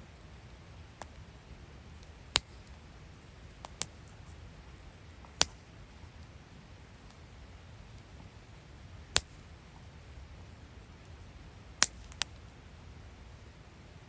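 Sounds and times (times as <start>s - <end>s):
low steady hiss: 0.0s - 14.0s
wood fire crackling: 0.0s - 14.0s.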